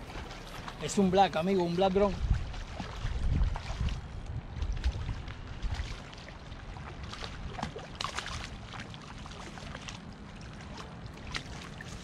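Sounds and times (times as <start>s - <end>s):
fish splashing in shallow water: 0.0s - 12.0s
wind rumble on microphone: 0.0s - 12.0s.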